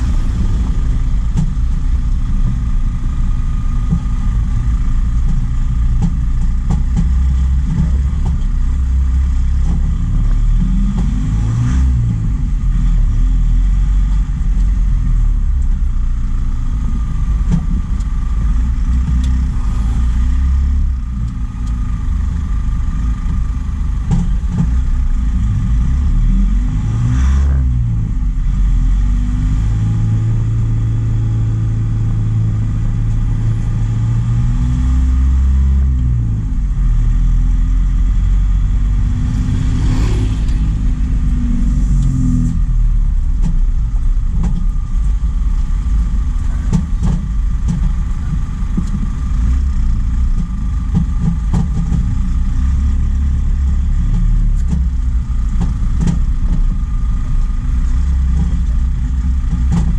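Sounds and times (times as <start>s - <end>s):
truck engine droning: 0.0s - 59.9s.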